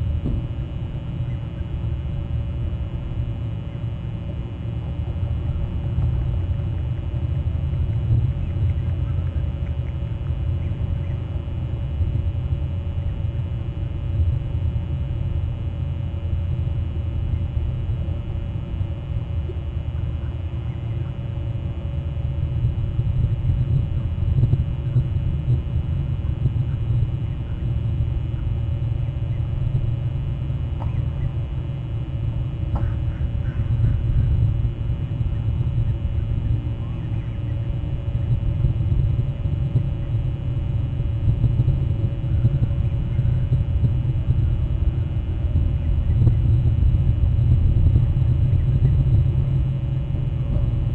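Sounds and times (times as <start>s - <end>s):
low rumble: 0.0s - 50.9s.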